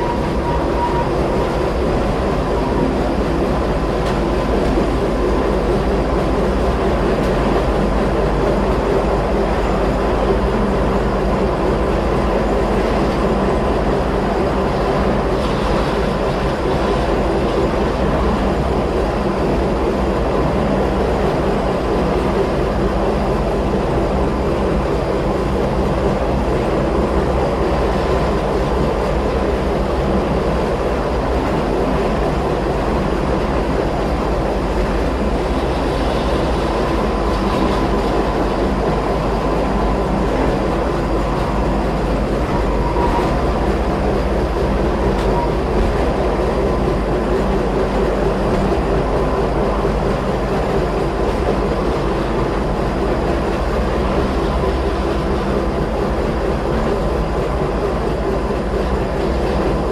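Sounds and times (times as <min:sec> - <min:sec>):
train motors and running gear rumble: 0:00.0 - 0:59.9.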